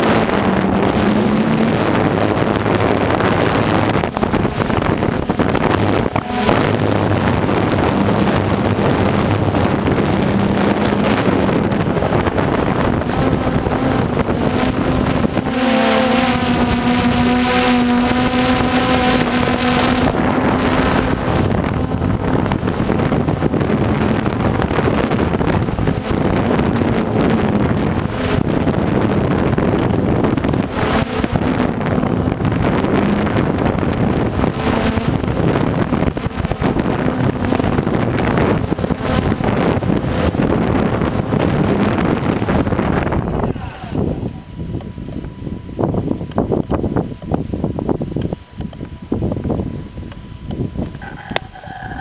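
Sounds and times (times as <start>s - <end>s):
drone propellers buzzing: 0.0s - 52.0s
wind buffeting microphone: 0.0s - 52.0s.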